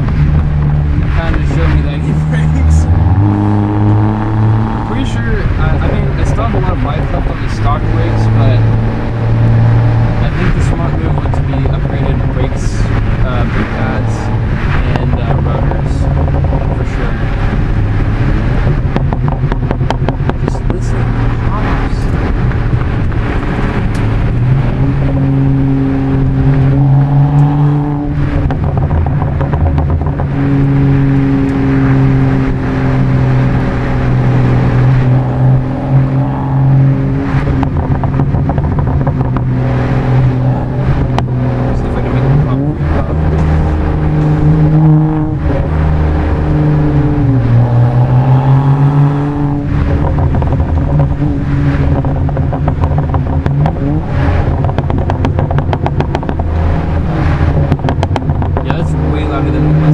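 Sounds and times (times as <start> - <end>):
car engine droning in cabin: 0.0 - 59.9
road noise: 0.0 - 59.9.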